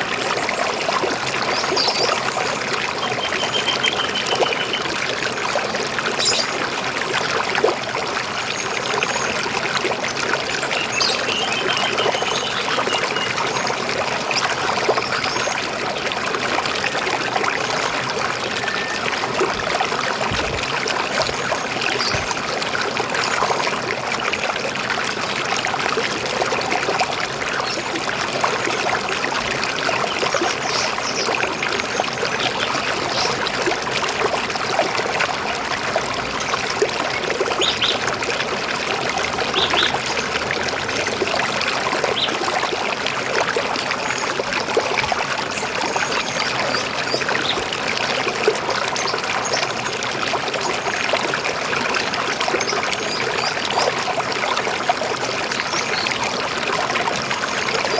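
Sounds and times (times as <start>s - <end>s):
river water flowing: 0.0s - 57.9s.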